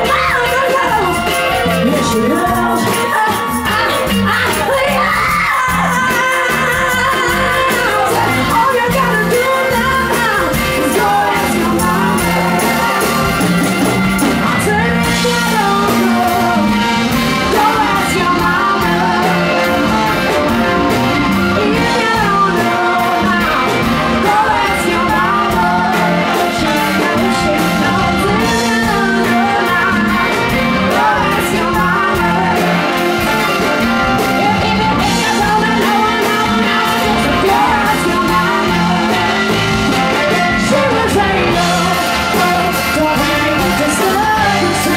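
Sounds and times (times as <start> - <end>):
live rock band playing: 0.0 - 44.9
person singing: 0.0 - 44.9.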